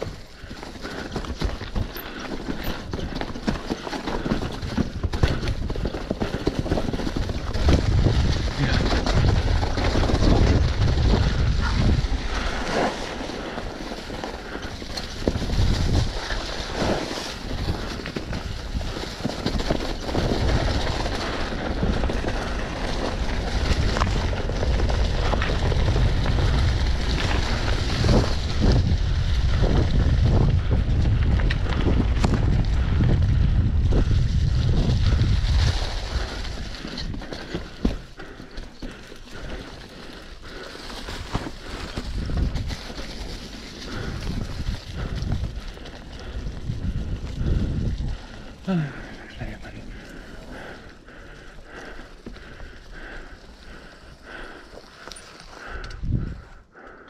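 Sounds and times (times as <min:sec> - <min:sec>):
bike knocking and rattling: 0:00.0 - 0:57.0
wind buffeting microphone: 0:04.2 - 0:12.8, 0:13.4 - 0:54.7, 0:55.6 - 0:57.0.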